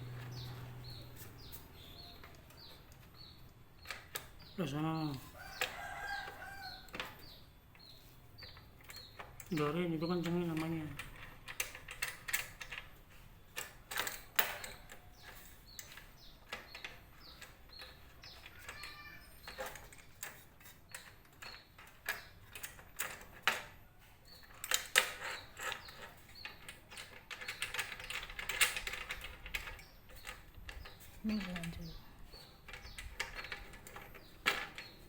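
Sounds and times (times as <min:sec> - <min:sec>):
hand tools clicking and knocking: 0:00.0 - 0:35.0.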